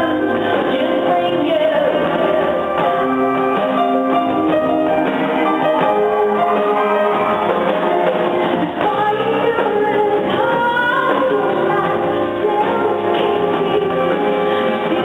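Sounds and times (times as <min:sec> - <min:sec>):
woman singing: 0:00.0 - 0:04.2, 0:05.4 - 0:15.0
live band playing: 0:00.0 - 0:15.0.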